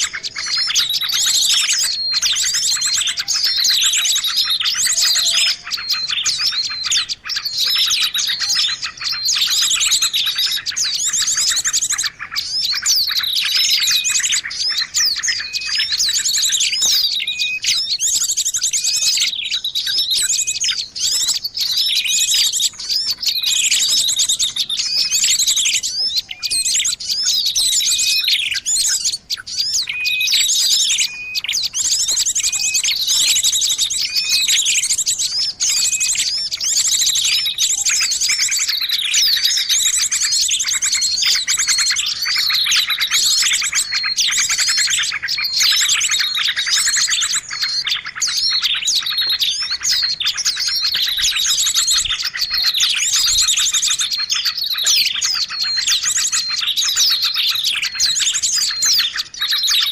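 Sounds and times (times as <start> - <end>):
many small birds chirping: 0.0 - 59.9.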